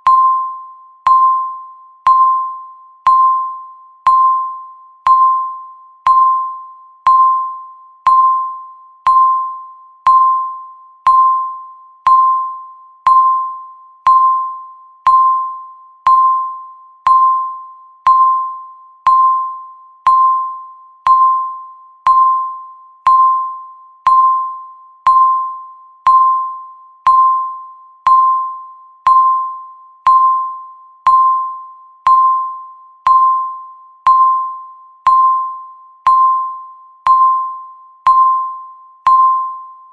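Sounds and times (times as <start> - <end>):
bell-like timer dings: 0.0 - 39.9.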